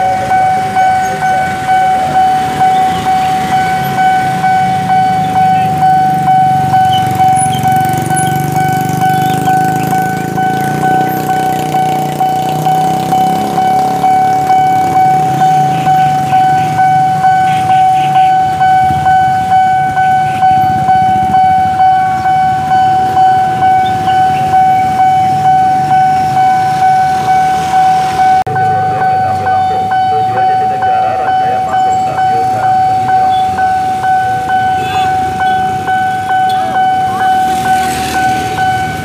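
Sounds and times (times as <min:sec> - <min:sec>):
level crossing alarm ringing: 0:00.0 - 0:39.0
motorcycle engines idling and passing: 0:00.0 - 0:39.0.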